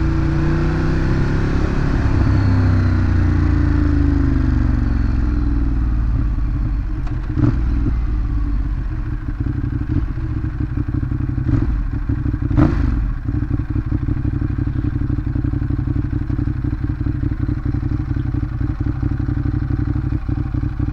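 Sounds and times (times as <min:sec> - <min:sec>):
motorcycle engine running at low revs: 0:00.0 - 0:20.9.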